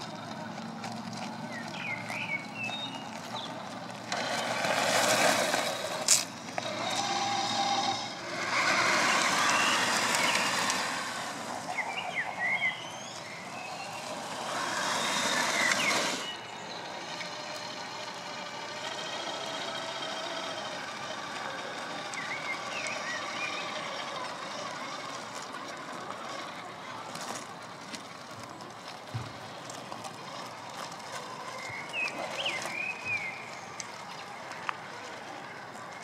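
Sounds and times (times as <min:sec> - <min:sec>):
gravel crunching: 0:00.0 - 0:36.0
small birds chirping: 0:00.0 - 0:36.0.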